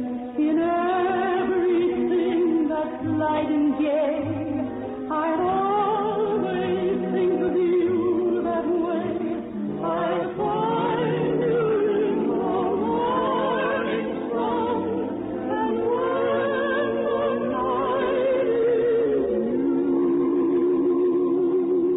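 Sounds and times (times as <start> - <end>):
singing with wide vibrato: 0.0 - 21.9
sustained musical accompaniment: 0.0 - 21.9.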